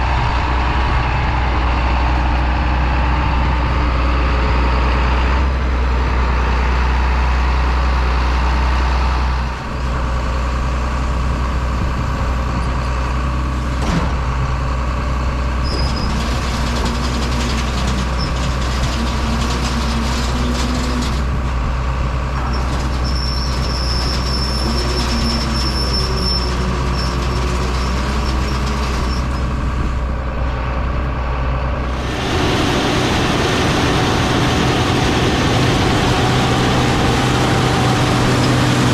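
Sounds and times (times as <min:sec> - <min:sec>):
diesel farm machinery droning: 0:00.0 - 0:38.9.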